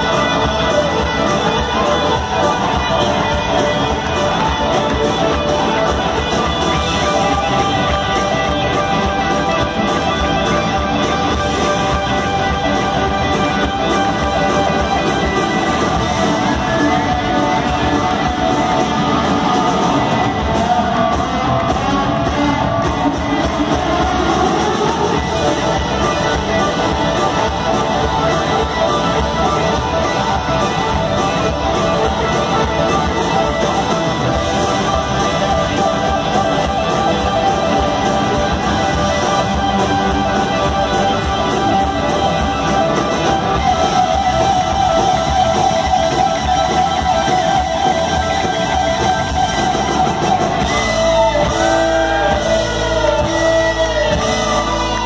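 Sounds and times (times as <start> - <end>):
electric guitar lead lines bending: 0.0 - 55.0
rock band playing live: 0.0 - 55.0.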